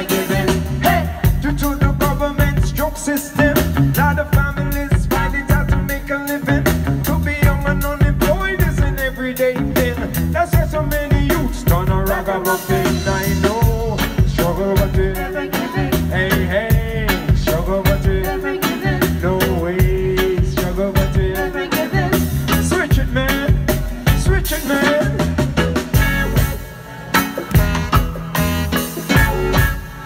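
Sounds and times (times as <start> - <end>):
reggae band playing live: 0.0 - 30.0.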